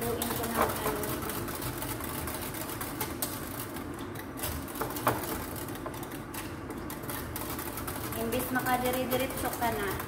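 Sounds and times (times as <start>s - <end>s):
whisk rattling in a pot: 0.0s - 10.0s.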